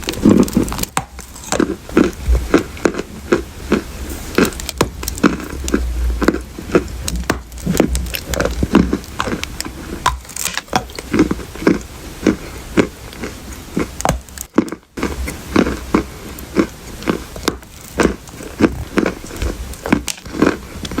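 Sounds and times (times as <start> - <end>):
dry clay being chewed: 0.0 - 21.0.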